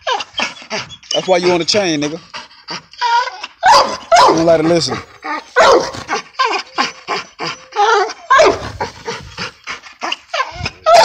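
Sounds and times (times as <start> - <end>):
dog yelps and barks: 0.0 - 1.7, 2.9 - 9.3, 10.0 - 11.0
dogs panting: 0.0 - 11.0.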